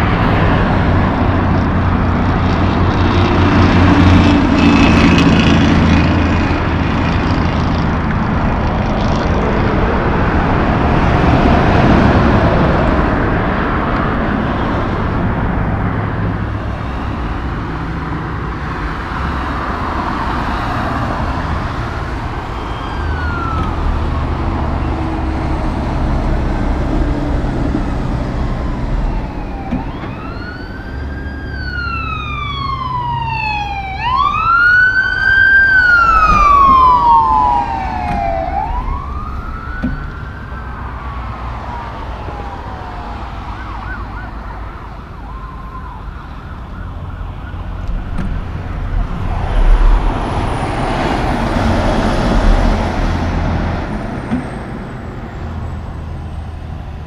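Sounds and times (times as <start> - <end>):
emergency siren wailing: 0.0 - 56.8
heavy truck passing: 0.0 - 57.0
highway traffic rumble: 0.0 - 57.0.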